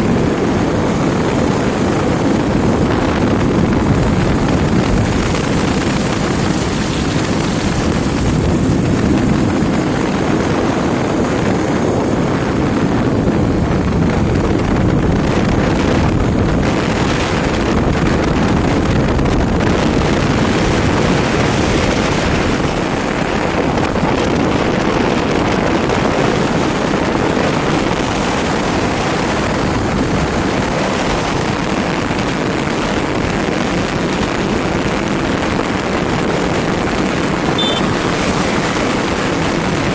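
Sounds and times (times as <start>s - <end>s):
motorcycle running: 0.0s - 39.9s
road noise: 0.0s - 39.9s
wind rushing over microphone: 0.0s - 39.9s.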